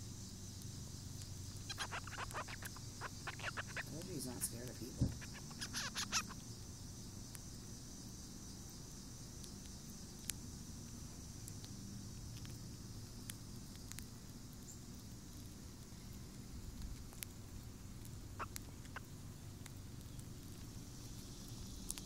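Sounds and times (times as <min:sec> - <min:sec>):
low background hum: 0:00.0 - 0:22.0
chipmunk cracking seed shells: 0:00.6 - 0:06.3, 0:09.4 - 0:22.0.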